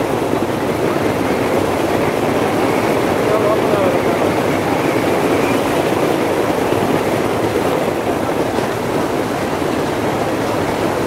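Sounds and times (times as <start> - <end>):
passenger train crossing: 0.0 - 11.0
sea surf breaking: 0.0 - 11.0
wind: 0.0 - 11.0.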